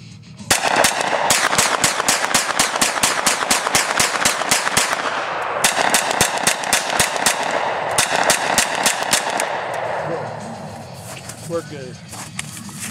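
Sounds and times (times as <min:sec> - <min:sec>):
rapid gunshots: 0:00.5 - 0:11.6.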